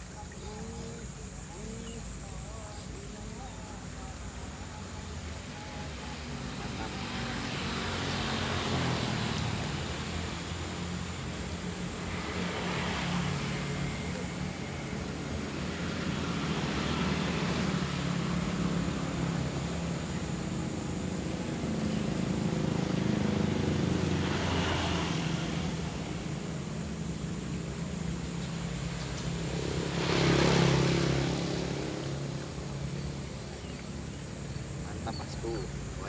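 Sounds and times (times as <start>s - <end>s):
motor engines humming: 0.0s - 36.0s
vehicles passing: 0.0s - 36.0s.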